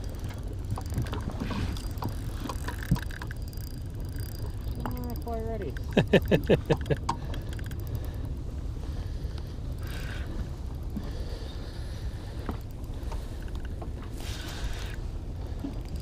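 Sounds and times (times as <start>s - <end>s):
water around boat: 0.0s - 16.0s
wind: 0.0s - 16.0s.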